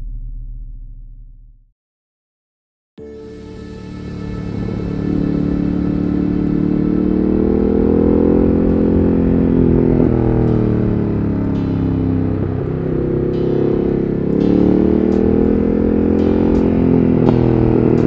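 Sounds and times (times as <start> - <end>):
motorcycle engine revving: 3.0 - 18.0.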